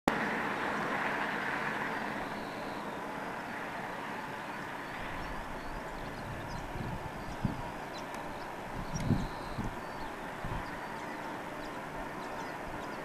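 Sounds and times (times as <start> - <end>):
distant jet engines rushing: 0.1 - 13.0.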